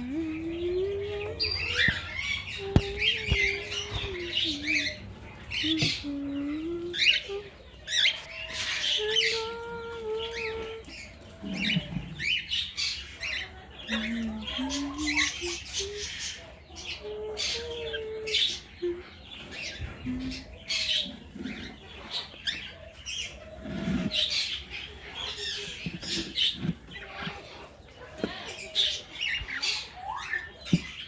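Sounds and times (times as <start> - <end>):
parrots squawking and chirping: 0.0 - 31.0.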